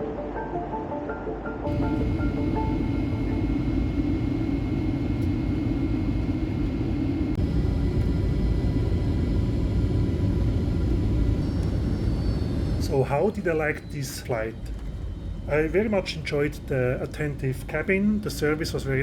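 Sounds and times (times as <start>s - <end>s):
airliner cabin rumble: 1.7s - 19.0s
faint steady tones: 1.7s - 19.0s.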